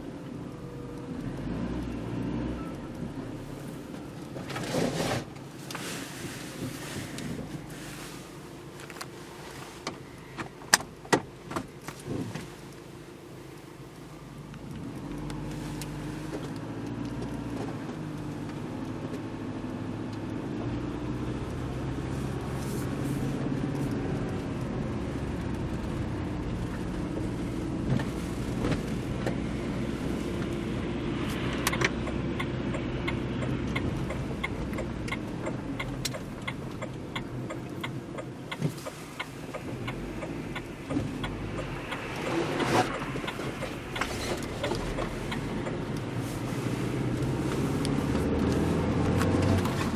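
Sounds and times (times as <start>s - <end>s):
car engine idling: 0.0s - 20.2s, 21.2s - 49.9s.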